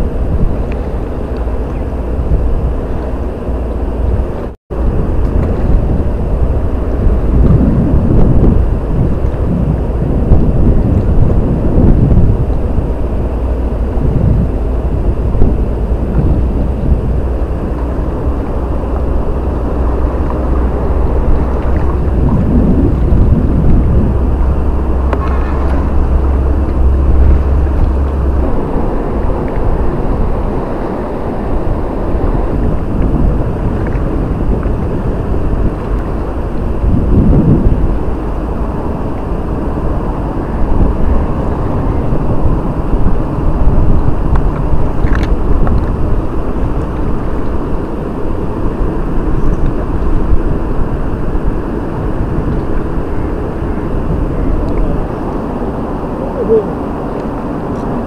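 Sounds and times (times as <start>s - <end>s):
steady low hum: 0.0s - 58.0s
wind buffeting microphone: 0.0s - 58.0s.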